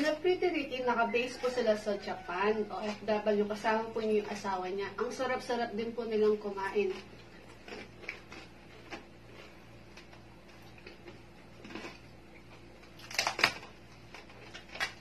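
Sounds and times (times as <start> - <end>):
crispy skin crackling and crunching: 1.3 - 5.2, 6.1 - 15.0.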